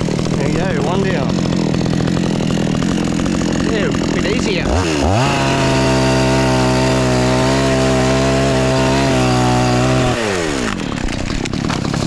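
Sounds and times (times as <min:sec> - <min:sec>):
chainsaw at full throttle: 0:00.0 - 0:12.0.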